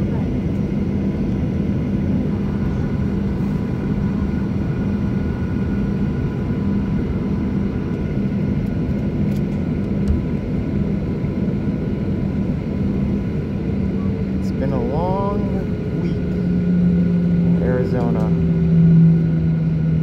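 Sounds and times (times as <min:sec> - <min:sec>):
jet engines idling in cabin: 0:00.0 - 0:20.0.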